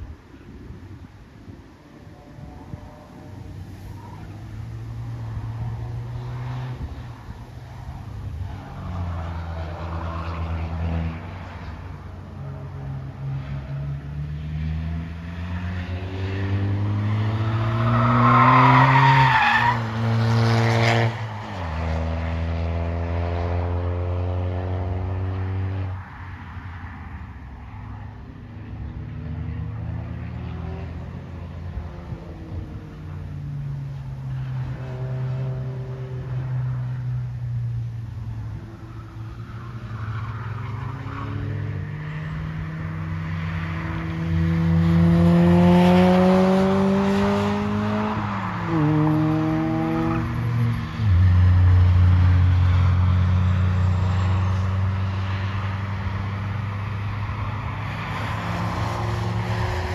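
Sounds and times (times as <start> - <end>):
distant race car engines: 0.0 - 59.9
race car engine passing: 1.8 - 59.9.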